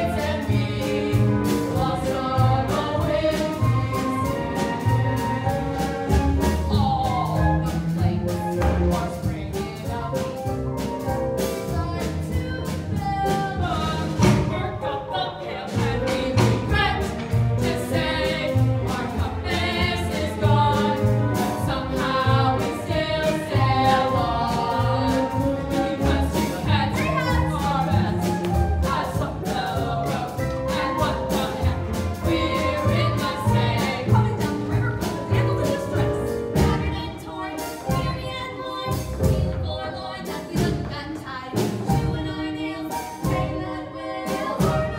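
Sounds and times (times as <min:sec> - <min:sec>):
group singing a show tune: 0:00.0 - 0:10.2, 0:11.8 - 0:44.9
instrumental accompaniment: 0:00.0 - 0:44.9.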